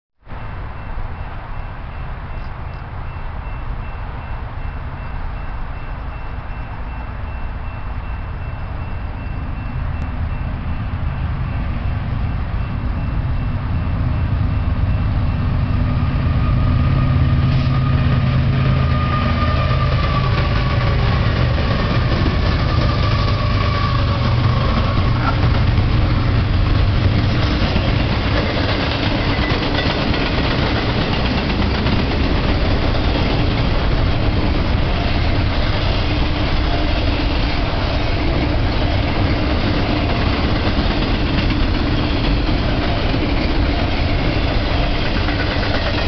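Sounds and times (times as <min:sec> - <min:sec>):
diesel locomotive engine rumble: 0:00.3 - 0:46.0.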